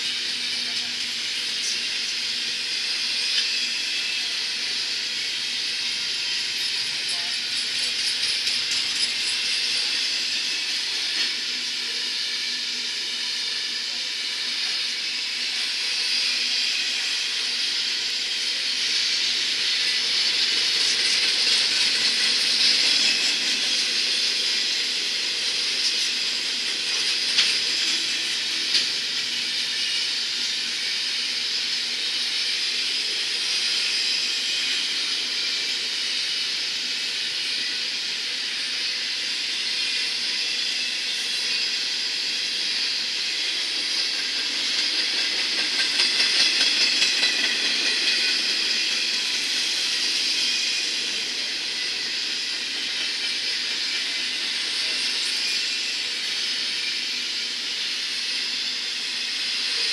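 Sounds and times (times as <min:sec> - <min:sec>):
train wheels hissing on rails: 0:00.0 - 0:59.9.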